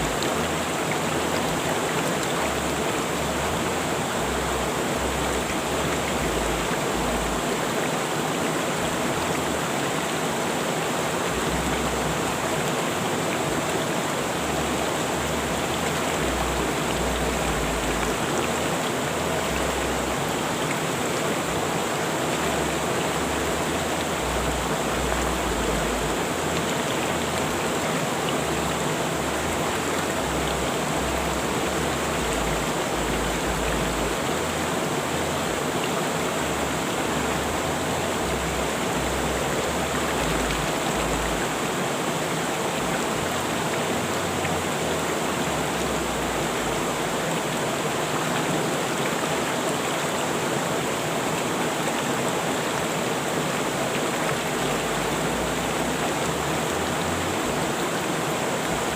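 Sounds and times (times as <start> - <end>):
river water rushing over rocks: 0.0 - 58.9.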